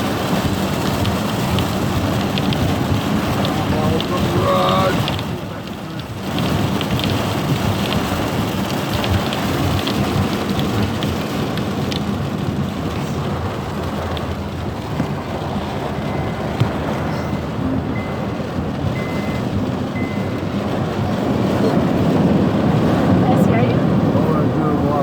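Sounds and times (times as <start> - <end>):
heavy rain pouring: 0.0 - 25.0
raindrops ticking: 0.0 - 25.0.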